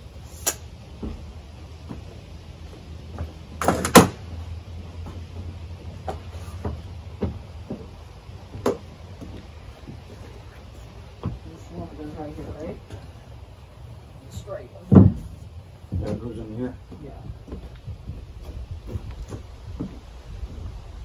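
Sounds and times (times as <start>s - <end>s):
wooden logs knocking and clunking: 0.8s - 12.0s, 14.8s - 20.7s.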